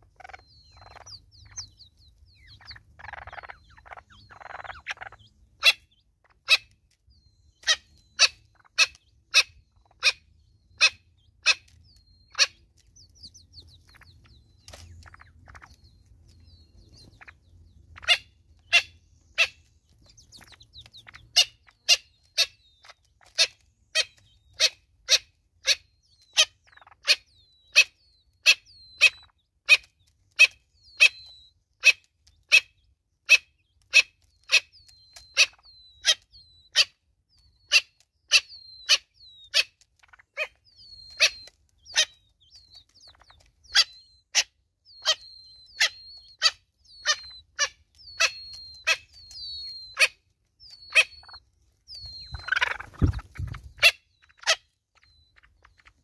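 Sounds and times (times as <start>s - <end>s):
high bird chirps: 0.0s - 56.0s.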